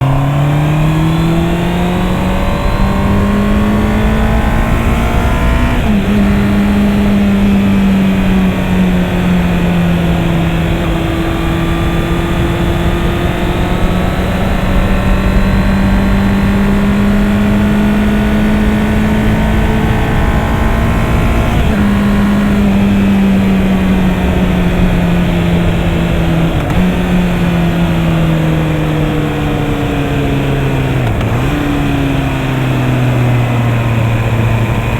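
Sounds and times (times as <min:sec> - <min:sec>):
motorcycle engine running: 0:00.0 - 0:34.9
wind noise on helmet: 0:00.0 - 0:34.9.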